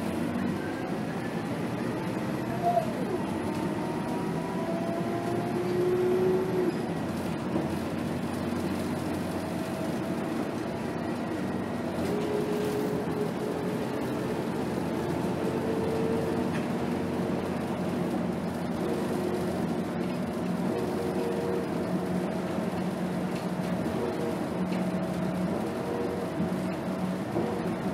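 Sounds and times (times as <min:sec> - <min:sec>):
bus engine and road rumble: 0:00.0 - 0:27.9
faint drivetrain whine: 0:00.0 - 0:27.9.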